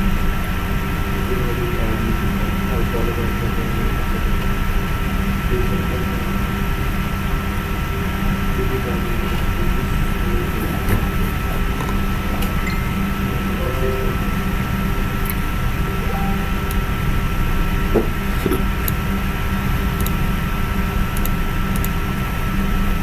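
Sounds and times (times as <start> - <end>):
equipment hum and hiss: 0.0 - 23.0
thin steady whine: 0.0 - 23.0.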